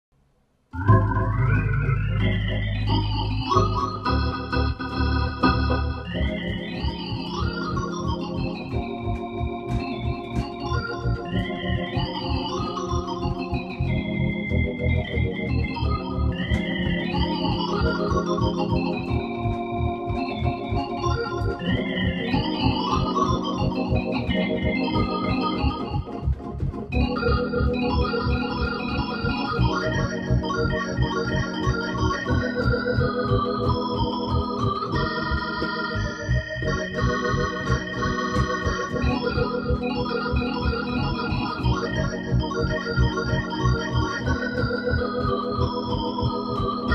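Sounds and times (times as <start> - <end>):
organ through rotary speaker: 0.2 - 46.9
pulsing bass: 0.8 - 46.9.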